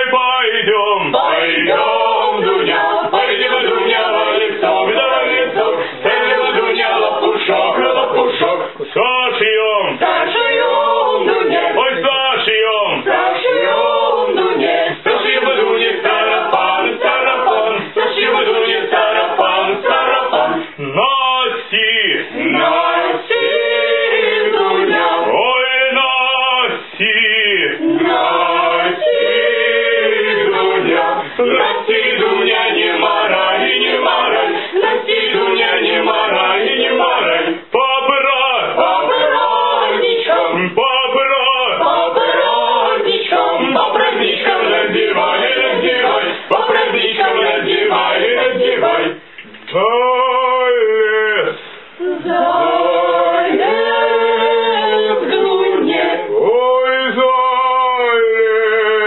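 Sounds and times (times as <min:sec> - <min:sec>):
men singing a cappella: 0:00.0 - 0:59.0.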